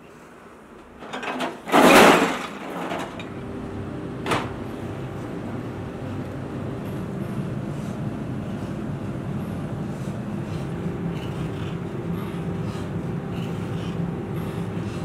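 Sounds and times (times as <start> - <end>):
steady machine hum: 1.8 - 15.0.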